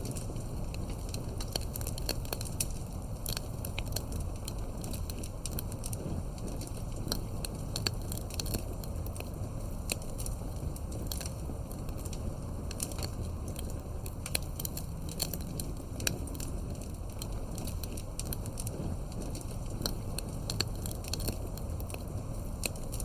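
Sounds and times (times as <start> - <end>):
campfire crackling and popping: 0.0 - 23.0
low rumble of flames: 0.0 - 23.0.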